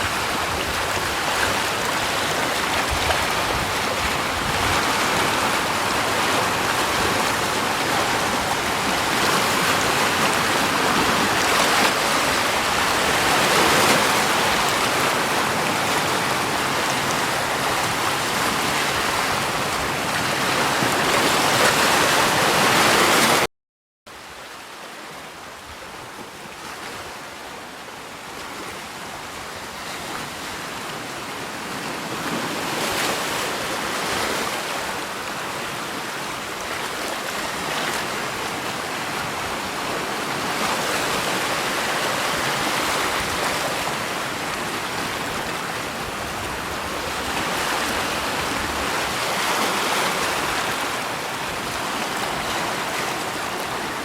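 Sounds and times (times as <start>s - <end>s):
rushing water: 0.0s - 23.5s, 24.1s - 54.0s.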